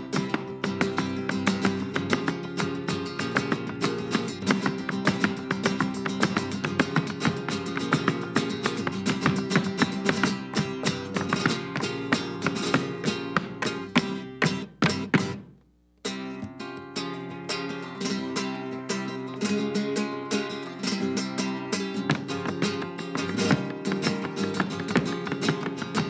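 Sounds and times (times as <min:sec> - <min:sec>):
flamenco guitar strumming: 0:00.0 - 0:26.0.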